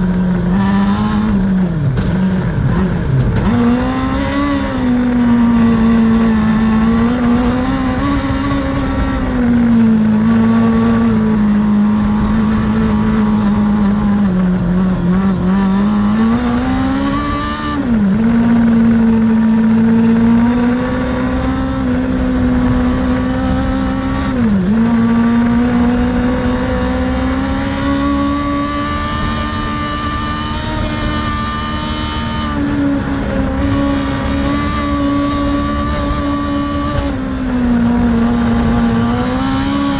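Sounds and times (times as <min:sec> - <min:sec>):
racing car engine at high revs: 0:00.0 - 0:39.9.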